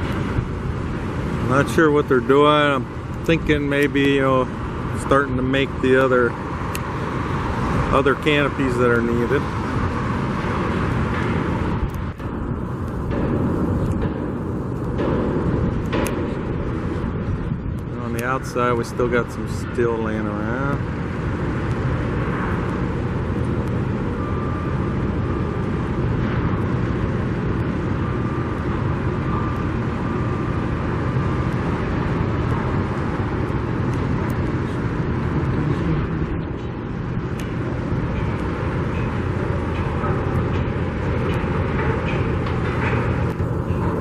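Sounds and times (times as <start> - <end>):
traffic rumble and hiss: 0.0 - 44.0.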